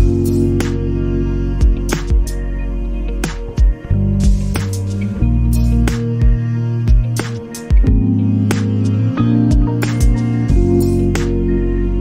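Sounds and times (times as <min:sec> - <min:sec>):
sustained chords: 0:00.0 - 0:12.0.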